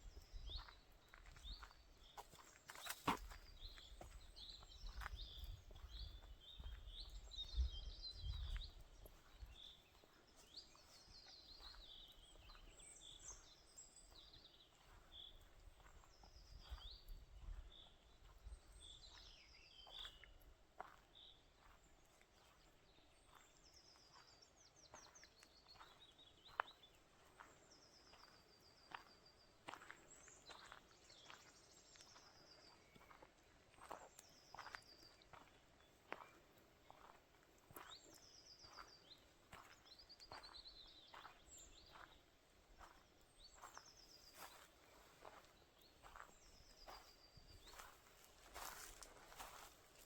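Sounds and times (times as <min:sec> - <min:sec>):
songbirds singing: 0:00.0 - 0:50.0.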